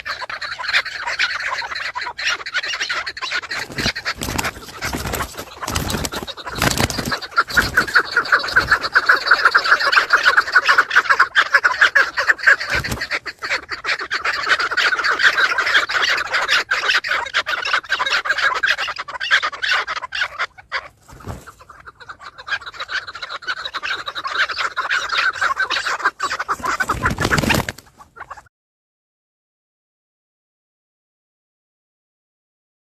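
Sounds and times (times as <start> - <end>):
birds squawking: 0.0 - 28.5.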